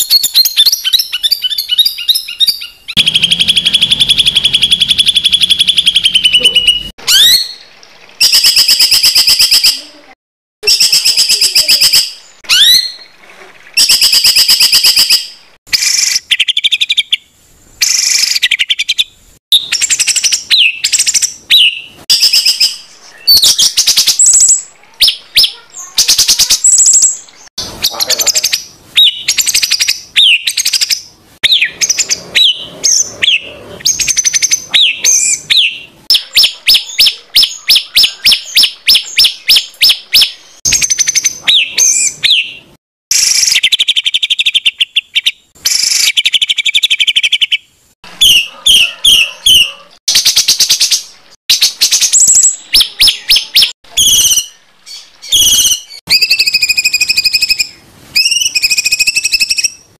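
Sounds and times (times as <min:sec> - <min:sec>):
songbird singing: 0:00.0 - 0:10.0, 0:10.6 - 0:59.9.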